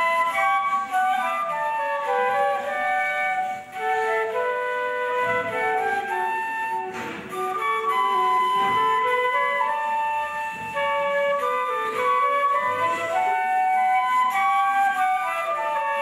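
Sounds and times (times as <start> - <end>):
flute melody: 0.0 - 16.0.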